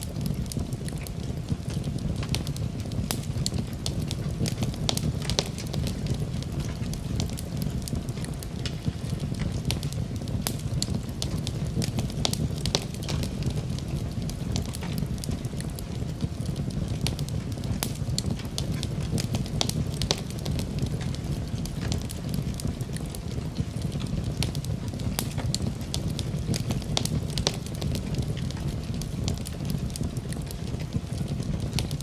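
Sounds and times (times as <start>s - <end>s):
burning wood crackling and popping: 0.0s - 32.0s
fire rushing: 0.0s - 32.0s.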